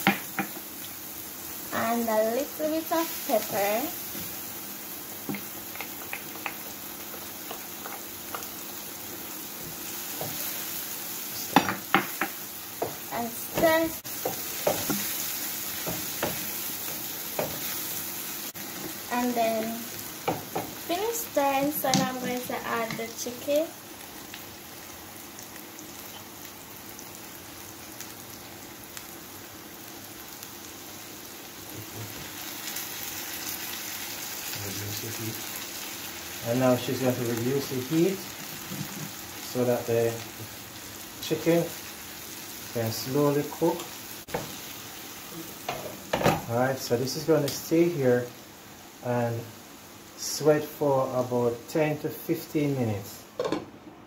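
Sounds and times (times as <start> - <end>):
butter sizzling in frying pan: 0.0 - 53.2.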